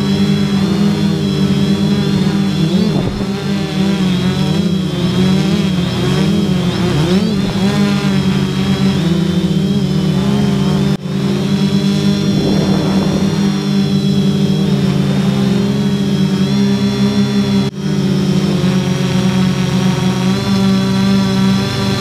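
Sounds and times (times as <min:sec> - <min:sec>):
drone motors and propellers humming: 0:00.0 - 0:22.0.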